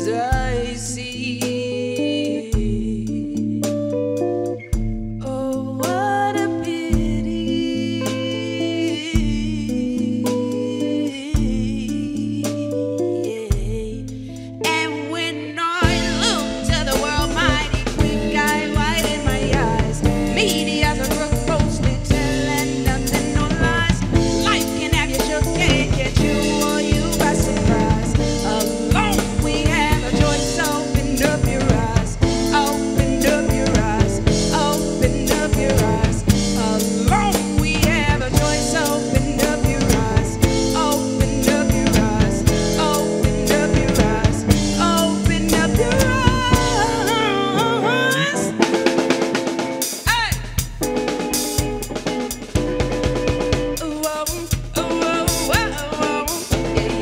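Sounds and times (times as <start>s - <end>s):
drum kit beat: 0.0s - 15.0s, 15.8s - 57.0s
electric guitar lines: 0.0s - 57.0s.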